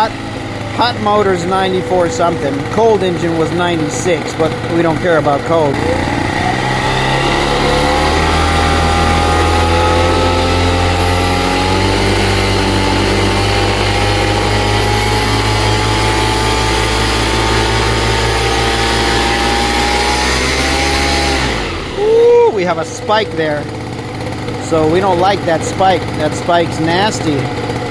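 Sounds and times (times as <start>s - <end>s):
paramotor engine at full throttle: 0.0s - 27.9s.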